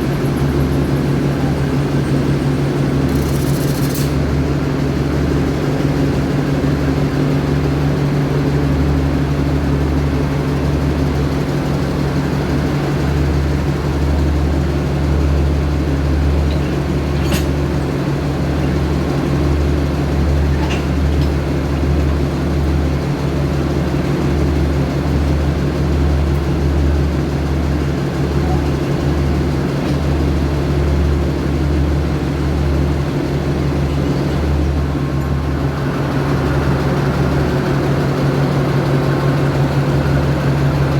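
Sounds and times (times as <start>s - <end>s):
diesel railway engine idling: 0.0s - 40.9s.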